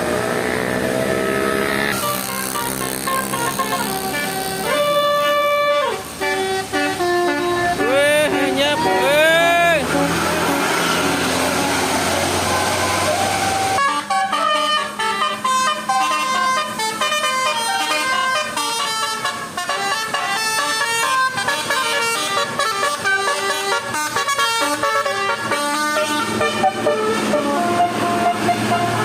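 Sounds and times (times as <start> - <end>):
vehicle noise: 0.0 - 29.0
musical bus air horn: 1.0 - 29.0.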